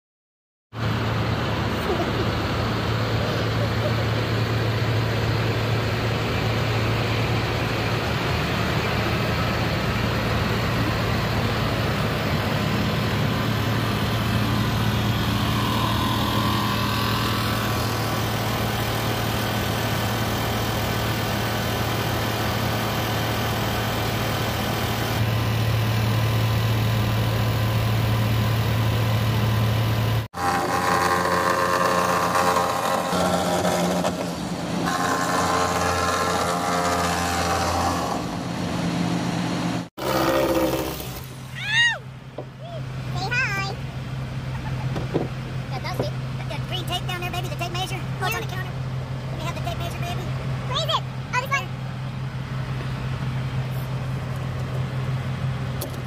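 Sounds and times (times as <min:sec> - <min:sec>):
engine idling: 0:00.8 - 0:33.2, 0:40.7 - 0:56.0.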